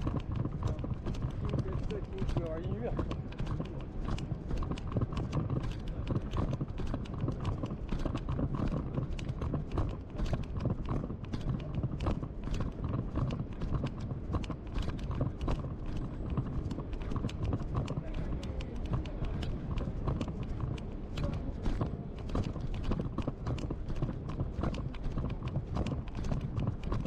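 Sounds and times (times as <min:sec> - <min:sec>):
footsteps on pavement: 0:00.0 - 0:27.0.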